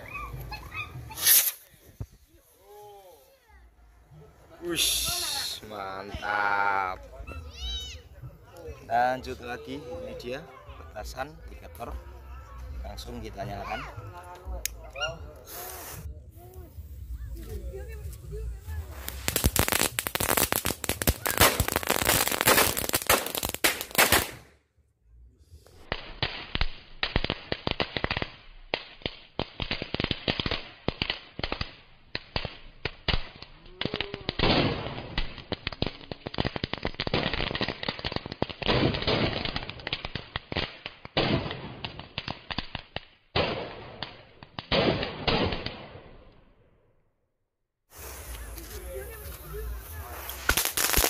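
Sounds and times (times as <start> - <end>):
firecrackers popping rapidly: 0.0 - 2.5, 4.6 - 9.4, 14.4 - 24.6, 25.6 - 46.6, 47.9 - 51.0.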